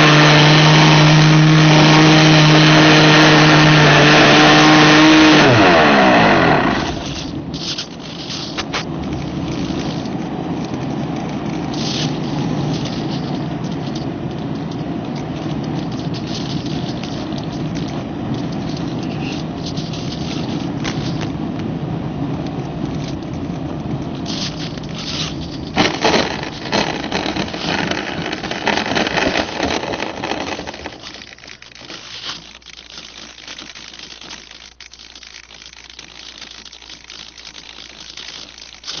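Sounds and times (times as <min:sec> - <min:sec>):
wheels scraping through grass: 0:00.0 - 0:21.6, 0:22.2 - 0:39.0
wind and airframe noise: 0:00.0 - 0:32.4.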